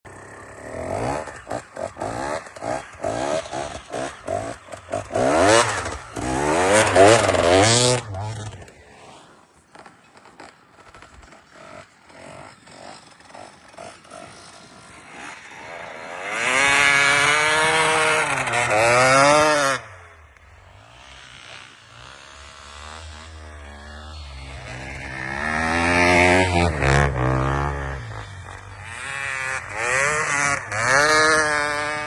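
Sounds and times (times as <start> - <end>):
motocross bike engine revving: 0.1 - 32.0.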